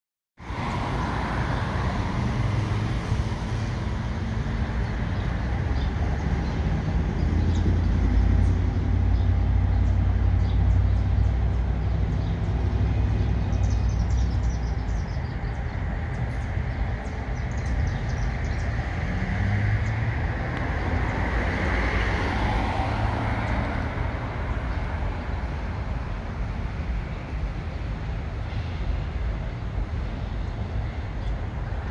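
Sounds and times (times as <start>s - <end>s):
train rumbling on elevated tracks: 0.4s - 31.9s.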